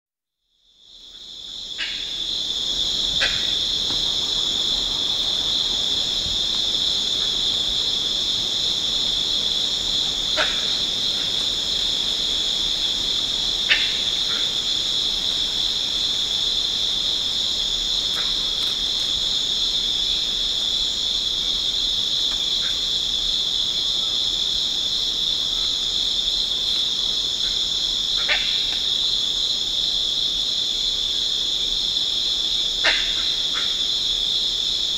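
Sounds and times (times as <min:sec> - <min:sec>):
dense insect chorus: 0:00.4 - 0:34.9.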